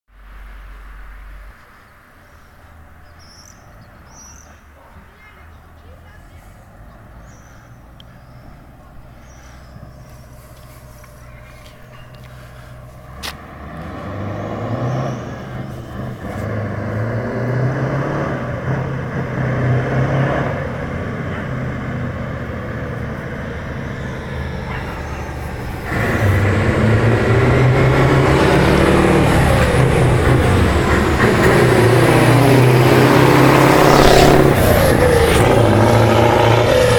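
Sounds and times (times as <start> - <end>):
truck engine approaching: 0.1 - 36.9.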